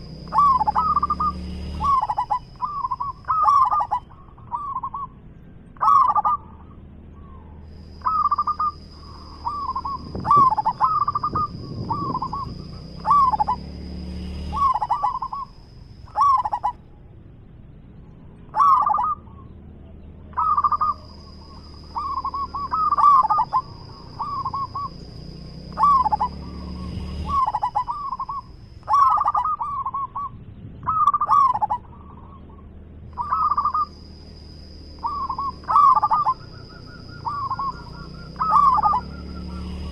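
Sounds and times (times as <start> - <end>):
dove cooing: 0.0 - 16.8, 18.4 - 19.6, 20.2 - 39.9.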